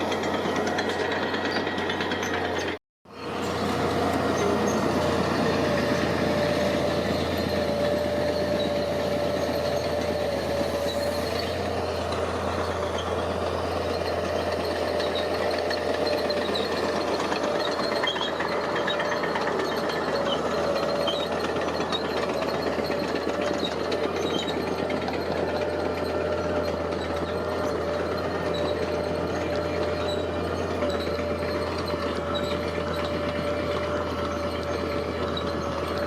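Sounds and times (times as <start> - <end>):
heavy machinery diesel engine: 0.0 - 36.0.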